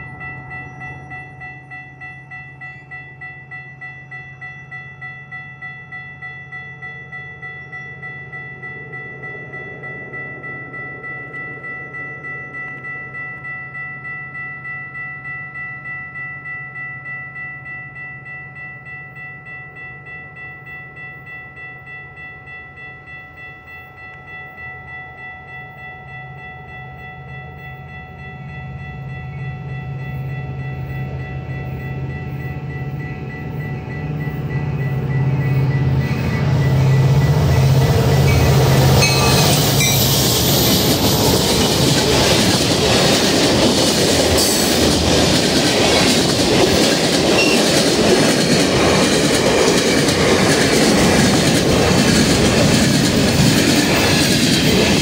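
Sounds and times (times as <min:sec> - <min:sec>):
crossing bells ringing: 0:00.0 - 0:55.0.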